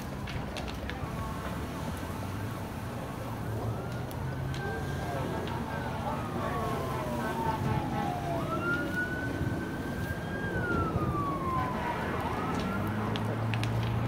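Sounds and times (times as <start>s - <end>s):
emergency vehicle siren wailing: 0.0s - 14.0s.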